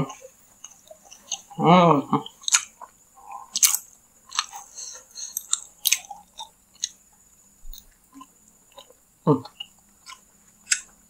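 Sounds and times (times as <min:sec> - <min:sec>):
close chewing mouth sounds: 0:00.6 - 0:01.6, 0:02.2 - 0:11.0.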